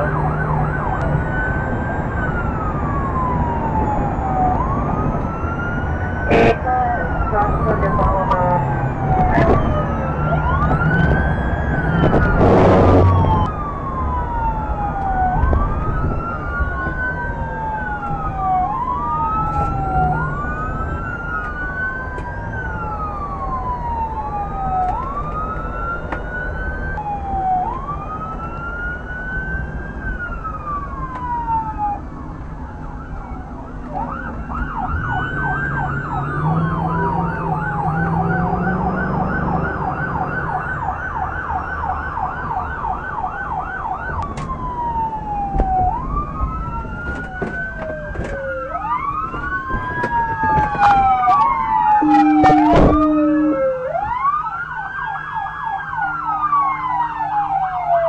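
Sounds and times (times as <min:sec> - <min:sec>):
engine and road noise: 0:00.0 - 0:58.0
faint distant sirens: 0:00.0 - 0:58.0
police siren wailing and yelping: 0:00.0 - 0:58.0.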